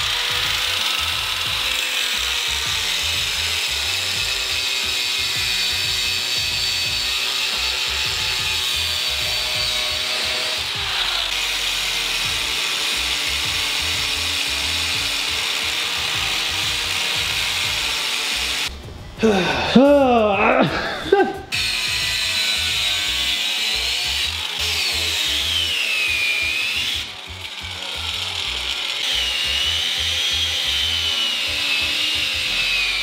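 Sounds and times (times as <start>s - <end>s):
rotary tool cutting plastic: 0.0s - 18.7s, 21.5s - 33.0s.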